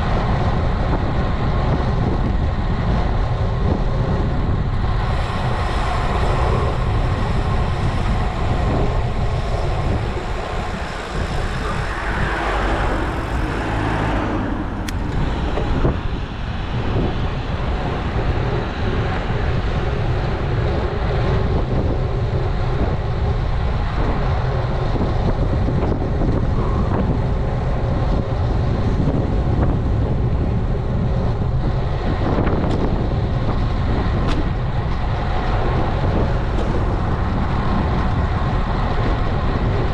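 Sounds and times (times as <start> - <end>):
rushing tyre and road noise: 0.0 - 39.9
wind buffeting microphone: 0.0 - 39.9.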